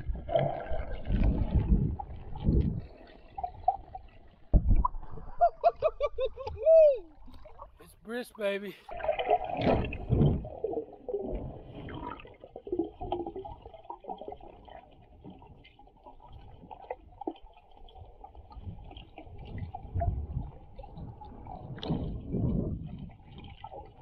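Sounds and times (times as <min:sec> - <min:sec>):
underwater gurgling and sloshing: 0:00.0 - 0:24.0.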